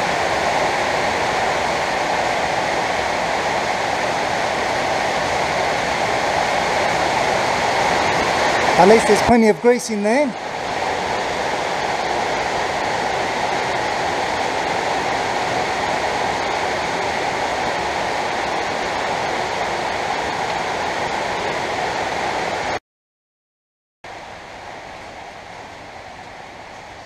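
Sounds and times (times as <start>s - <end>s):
heavy rain on a roof: 0.0s - 22.8s, 24.1s - 27.0s.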